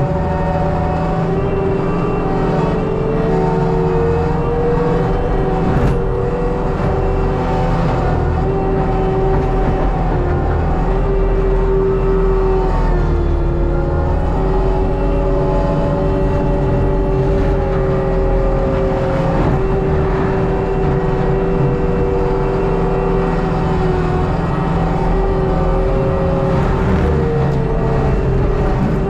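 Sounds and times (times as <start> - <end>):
diesel engine drone: 0.0 - 29.0
mulching head whine: 0.0 - 29.0.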